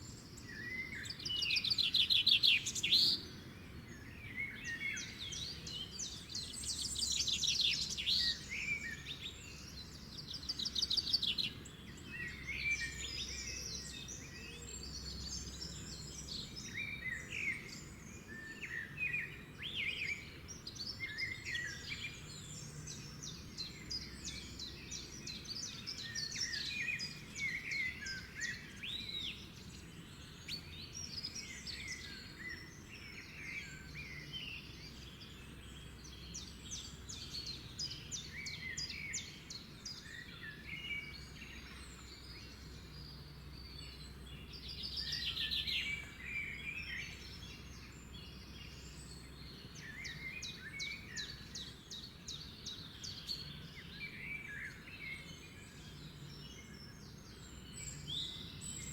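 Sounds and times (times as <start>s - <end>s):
songbirds singing and chirping: 0.0s - 58.9s.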